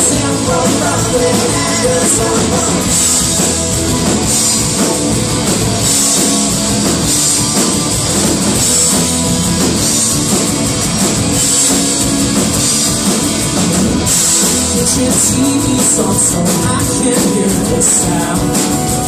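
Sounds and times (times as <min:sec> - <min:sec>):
drum kit: 0:00.0 - 0:19.0
electric and acoustic guitars: 0:00.0 - 0:19.0.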